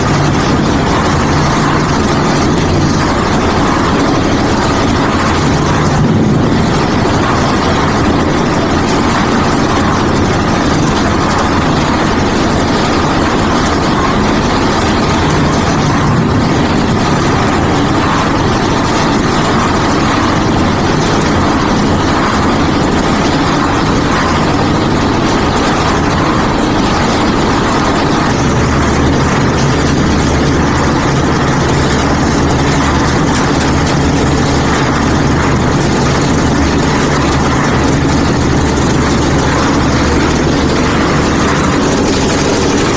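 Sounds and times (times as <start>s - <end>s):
concrete mixer engine running: 0.0s - 42.9s.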